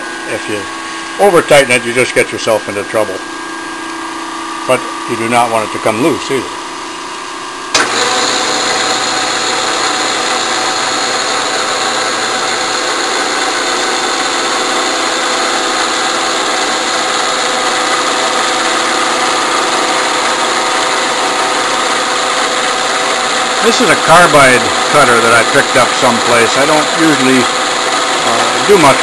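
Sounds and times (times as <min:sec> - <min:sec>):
milling machine whirring: 0:00.0 - 0:29.0.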